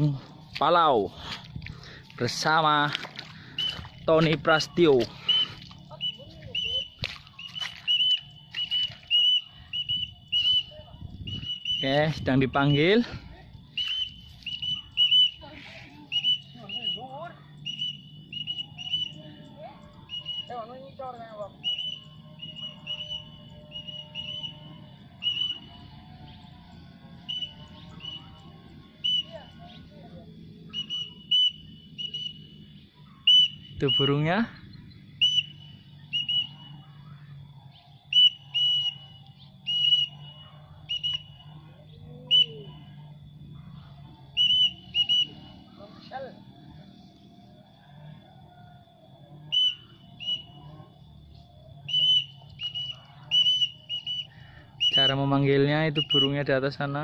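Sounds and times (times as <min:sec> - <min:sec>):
shrill whistle blasts: 0:03.5 - 0:13.1, 0:13.7 - 0:43.1, 0:43.8 - 0:47.1, 0:49.3 - 0:57.0.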